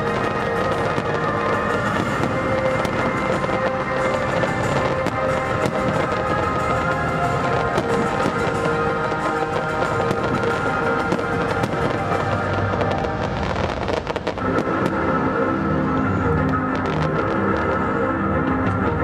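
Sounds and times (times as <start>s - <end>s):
firework shells bursting and crackling: 0.0s - 18.1s
loud show music: 0.0s - 19.0s.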